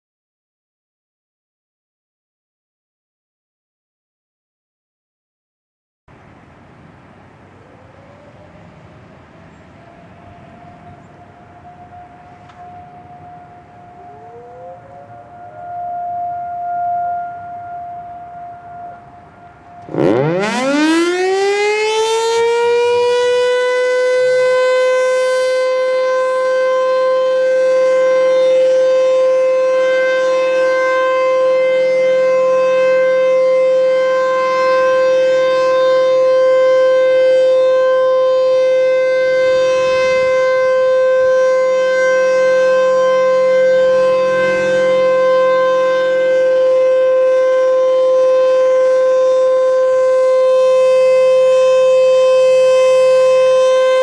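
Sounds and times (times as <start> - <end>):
tornado siren winding up: 9.9 - 54.0.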